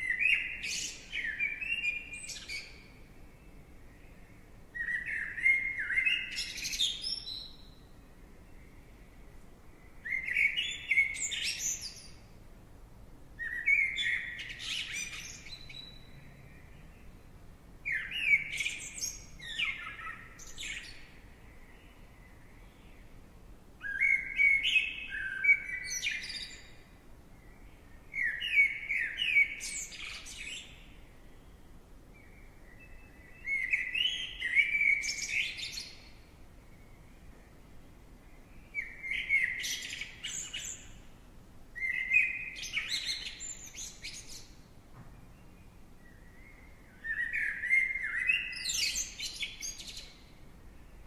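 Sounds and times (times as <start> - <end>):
songbird chirping: 0.0 - 51.0.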